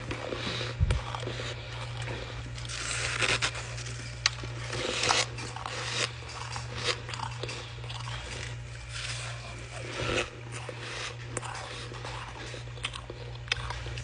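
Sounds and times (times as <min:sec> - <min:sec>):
ice being chewed: 0:00.0 - 0:14.0
steady low hum: 0:00.0 - 0:14.0.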